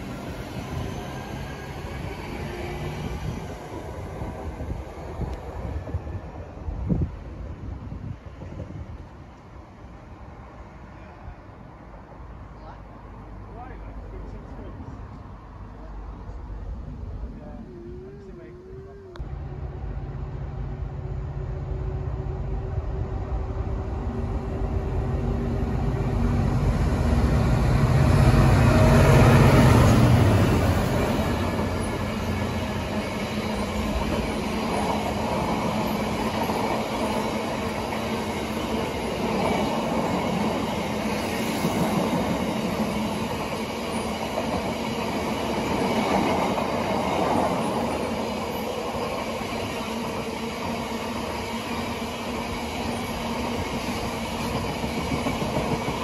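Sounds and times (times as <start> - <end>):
freight train rolling rumble: 0.0 - 56.0.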